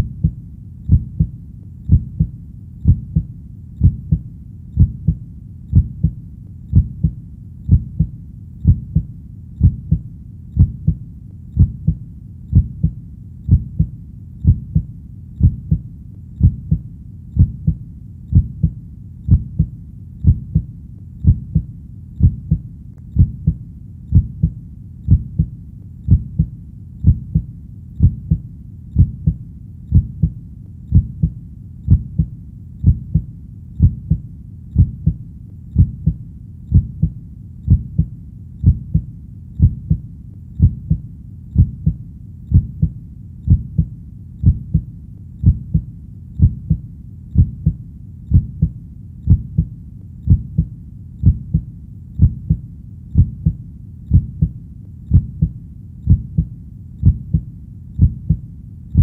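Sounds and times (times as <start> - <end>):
constant low rumble: 0.0 - 59.0
heartbeat thumps: 0.0 - 59.0.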